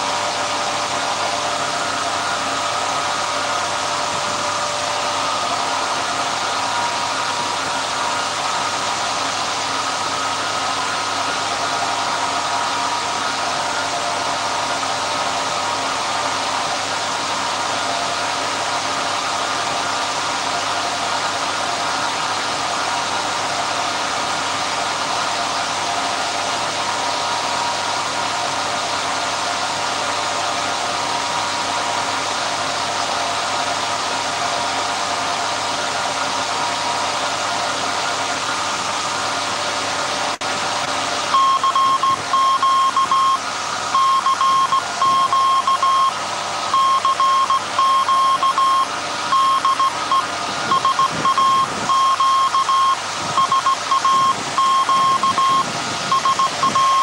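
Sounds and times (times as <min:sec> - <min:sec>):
alternator mechanical whine: 0:00.0 - 0:57.0.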